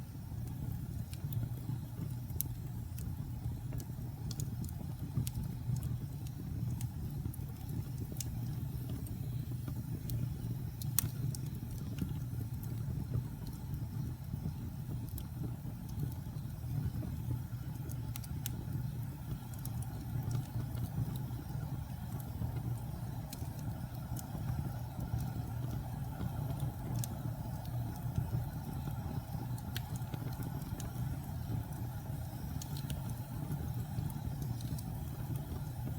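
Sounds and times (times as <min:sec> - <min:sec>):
wood fire rumbling and crackling: 0:00.0 - 0:35.9.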